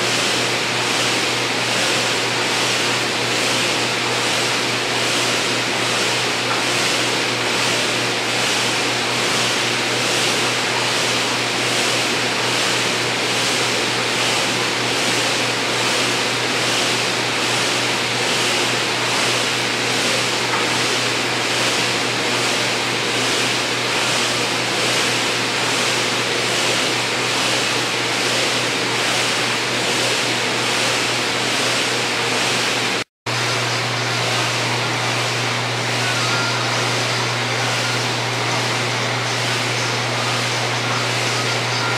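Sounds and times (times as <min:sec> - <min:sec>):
flywheel whirring: 0:00.0 - 0:41.9.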